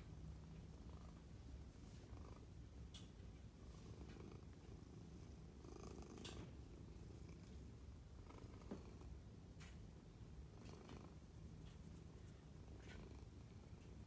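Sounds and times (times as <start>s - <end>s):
cat purring: 0.0s - 9.7s, 10.3s - 14.0s.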